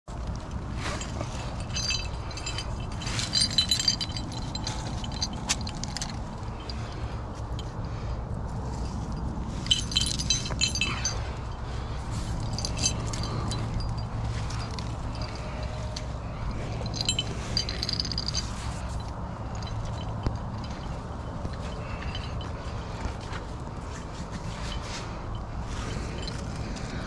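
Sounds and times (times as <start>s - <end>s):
metal climbing gear clinking: 0.1s - 27.0s.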